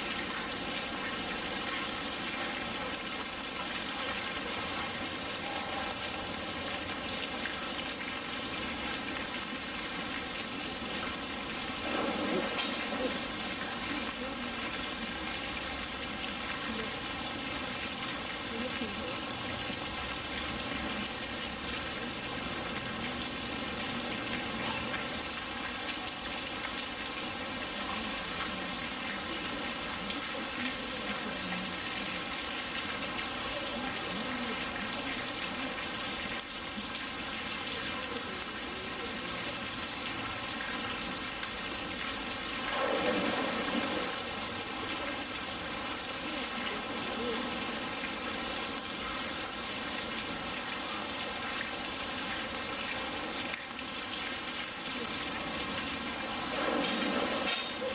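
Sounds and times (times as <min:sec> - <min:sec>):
running water rushing: 0:00.0 - 0:57.9.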